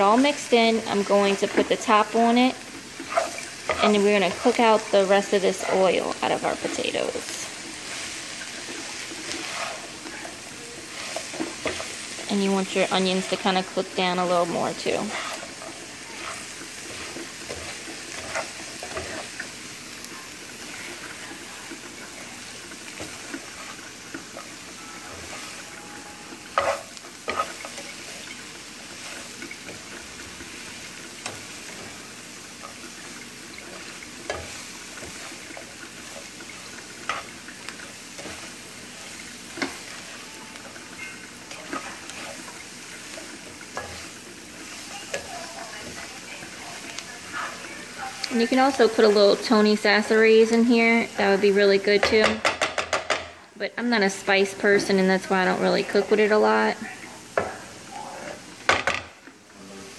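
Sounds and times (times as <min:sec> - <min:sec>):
spatula scraping and knocking pan: 0:00.0 - 0:19.7, 0:20.4 - 0:53.4
potatoes sizzling in frying pan: 0:00.0 - 0:59.9.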